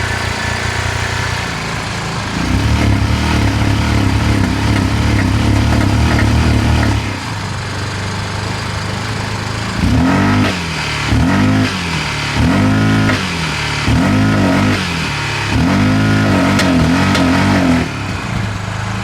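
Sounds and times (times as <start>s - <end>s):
engine idling and revving: 0.0s - 19.0s.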